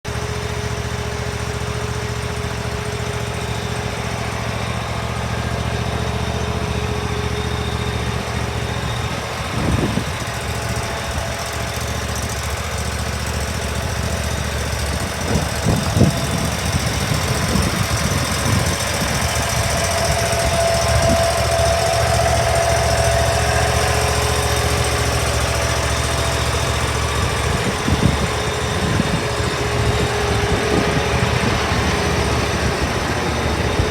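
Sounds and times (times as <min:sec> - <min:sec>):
mower engine running: 0:00.1 - 0:33.9.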